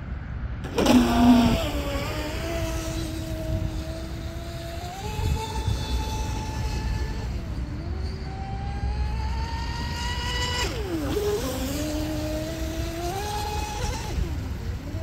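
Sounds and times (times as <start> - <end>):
boat motor and propeller whining: 0.0 - 15.0.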